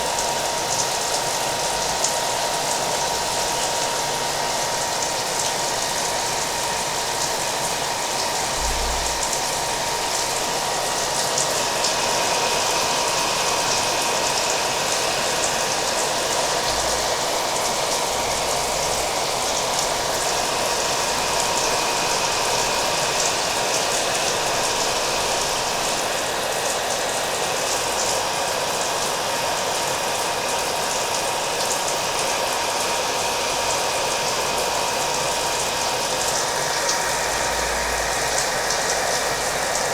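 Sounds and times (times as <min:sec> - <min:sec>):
hair dryer whining: 0:00.0 - 0:39.9.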